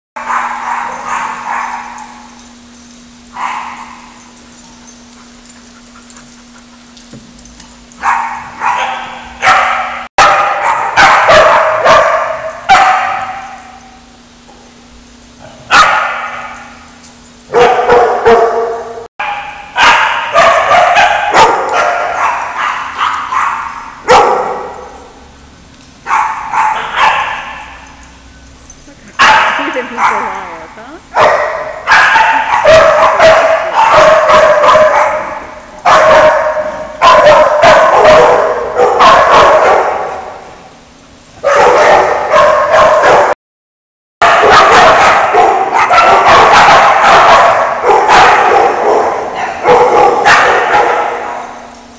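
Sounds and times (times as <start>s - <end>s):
dogs barking in echoing room: 0.2s - 43.4s, 44.2s - 51.9s.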